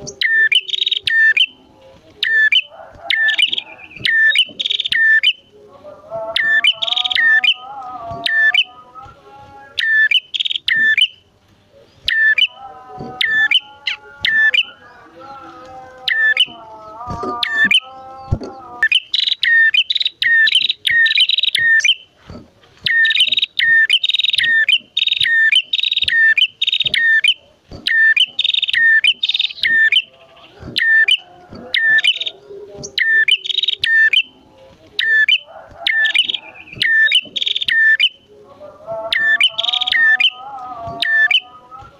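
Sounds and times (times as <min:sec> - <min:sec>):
bird sharp high chirps: 0:00.0 - 0:01.6, 0:02.2 - 0:05.5, 0:06.4 - 0:08.8, 0:09.7 - 0:11.2, 0:11.9 - 0:12.6, 0:13.2 - 0:15.0, 0:16.1 - 0:16.6, 0:17.2 - 0:22.1, 0:22.8 - 0:34.3, 0:35.0 - 0:38.2, 0:39.1 - 0:41.5
lower wavering bird call: 0:00.0 - 0:01.6, 0:02.2 - 0:05.5, 0:06.3 - 0:08.8, 0:09.6 - 0:11.2, 0:12.1 - 0:12.6, 0:13.2 - 0:15.0, 0:16.0 - 0:16.6, 0:17.2 - 0:22.1, 0:22.8 - 0:30.2, 0:30.8 - 0:34.4, 0:35.0 - 0:38.3, 0:39.1 - 0:41.6.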